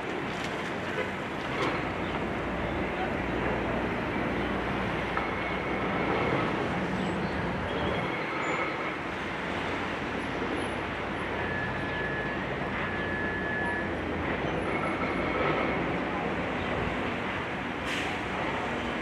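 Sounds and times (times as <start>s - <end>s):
heavy engines rumbling: 0.0s - 19.0s.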